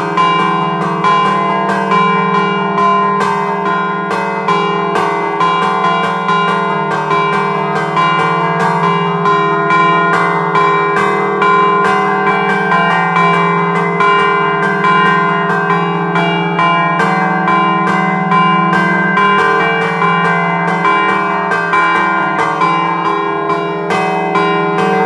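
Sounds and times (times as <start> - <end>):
church bells chiming: 0.0 - 25.0.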